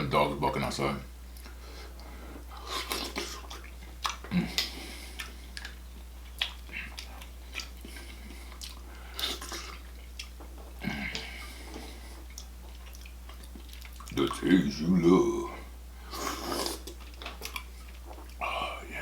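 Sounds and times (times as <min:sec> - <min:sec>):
chewing and wet smacking: 0:01.3 - 0:14.6, 0:16.1 - 0:18.4.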